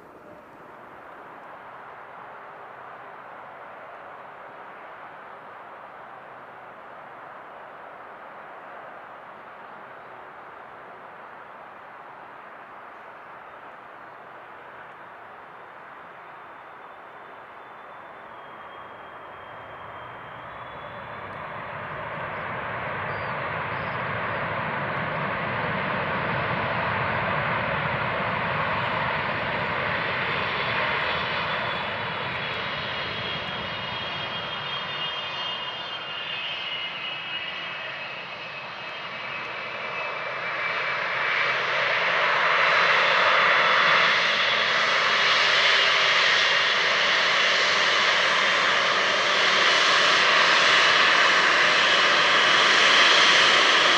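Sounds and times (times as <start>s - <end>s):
jet engines at takeoff power: 0.0s - 53.9s.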